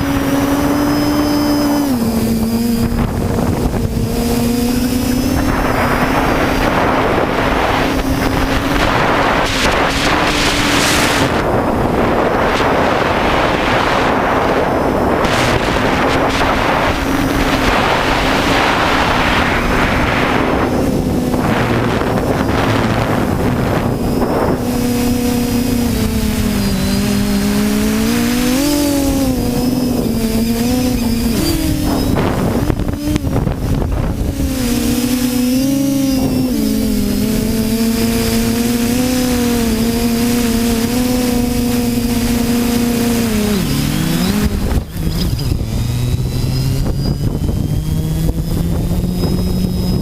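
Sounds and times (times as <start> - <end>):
drone motors humming: 0.0 - 50.0
wind rushing over microphone: 0.0 - 50.0.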